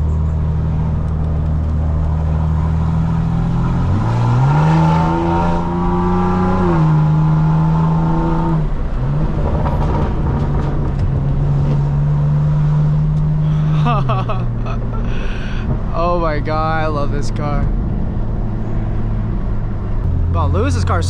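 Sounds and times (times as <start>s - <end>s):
car exhaust revving: 0.0s - 21.0s.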